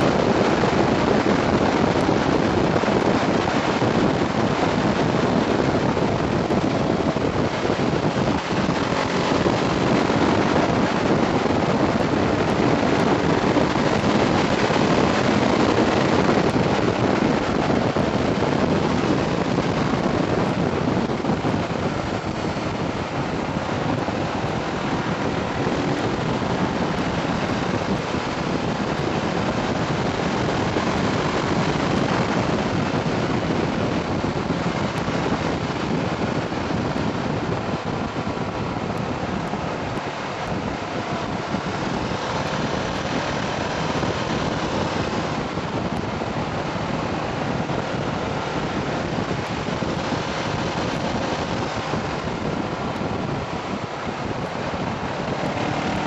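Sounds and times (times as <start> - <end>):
motorcycle engine: 0.0 - 56.0
wind rush on microphone: 0.0 - 56.0.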